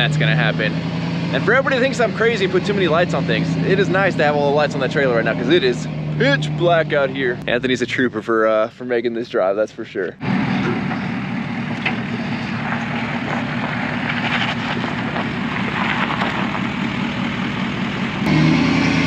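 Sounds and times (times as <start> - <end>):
diesel truck engine running: 0.0 - 8.5, 10.1 - 19.0.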